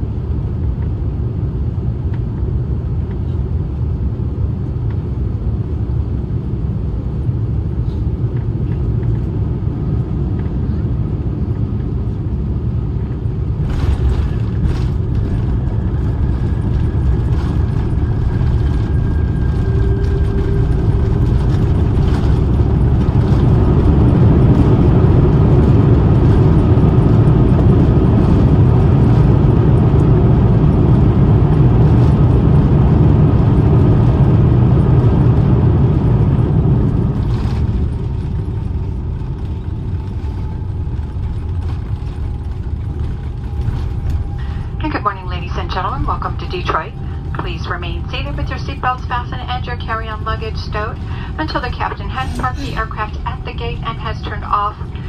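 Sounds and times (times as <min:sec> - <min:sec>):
faint engine whine: 0:00.0 - 0:55.0
jet engine reverse thrust roar: 0:00.0 - 0:55.0.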